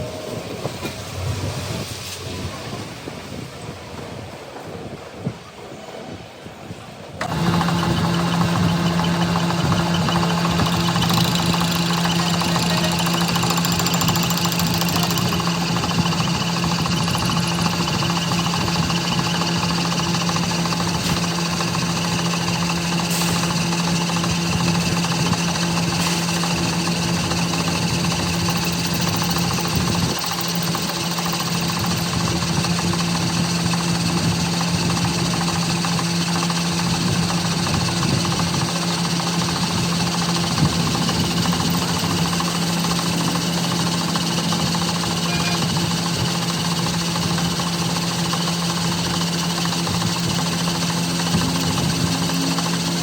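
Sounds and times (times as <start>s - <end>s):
machine humming: 7.2s - 53.0s.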